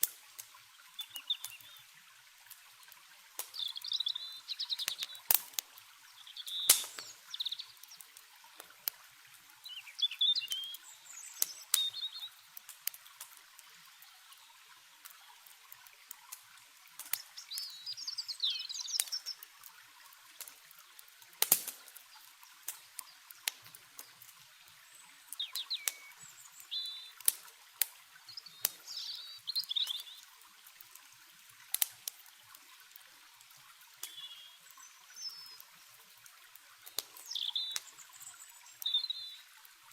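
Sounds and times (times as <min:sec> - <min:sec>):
campfire popping and crackling: 0:00.0 - 0:39.9
flowing water: 0:00.0 - 0:39.9
small birds chirping: 0:00.4 - 0:02.1, 0:03.4 - 0:08.9, 0:09.5 - 0:16.4, 0:17.0 - 0:30.5, 0:33.9 - 0:39.6.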